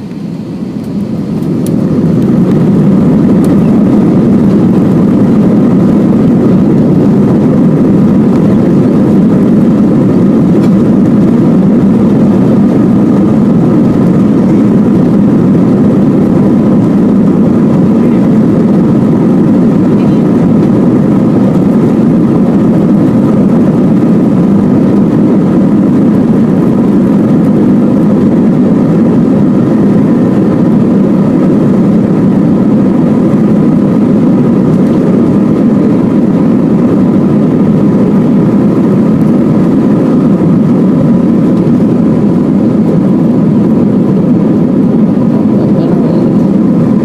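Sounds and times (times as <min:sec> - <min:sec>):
faint engine whine: 0:00.0 - 0:47.0
jet engines rumbling: 0:00.0 - 0:47.0.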